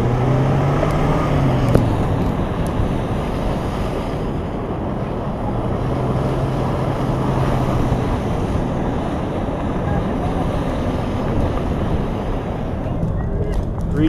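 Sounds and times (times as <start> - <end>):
low engine hum: 0.0 - 14.0
strong wind over microphone: 0.0 - 14.0.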